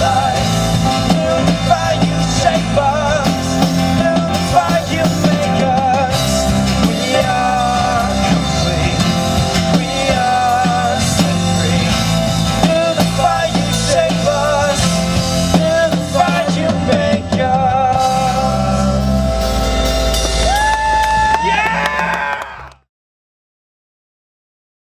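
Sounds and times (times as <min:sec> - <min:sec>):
wavering melodic lead line: 0:00.0 - 0:22.0
drum kit: 0:00.0 - 0:22.8
rock band music: 0:00.0 - 0:22.8
steady bass: 0:00.0 - 0:22.8.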